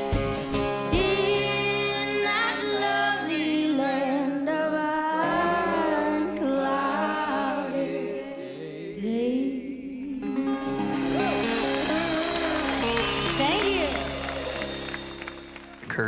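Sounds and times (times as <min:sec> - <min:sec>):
song with sung vocals: 0:00.7 - 0:16.0.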